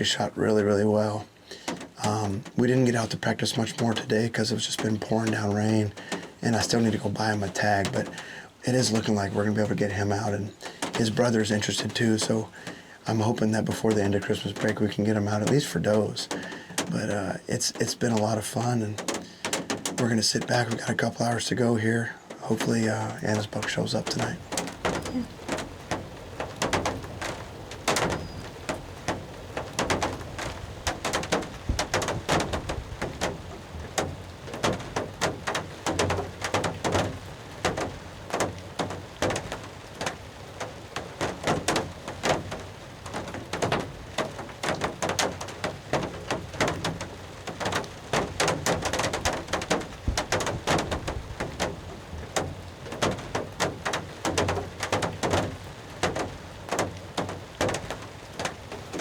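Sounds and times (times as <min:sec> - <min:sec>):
rain tapping on a roof: 0:00.0 - 0:59.0.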